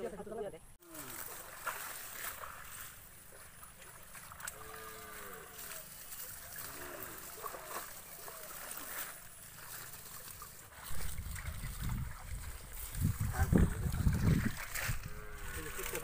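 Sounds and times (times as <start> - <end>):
small water splashes and drips: 0.8 - 16.0
water plants rustling: 0.8 - 16.0.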